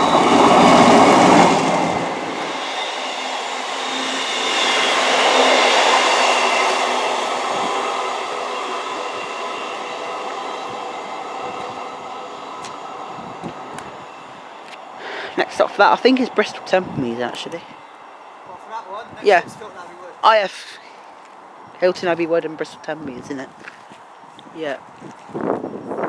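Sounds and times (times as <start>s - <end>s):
diesel train passing on rails: 0.0s - 26.0s.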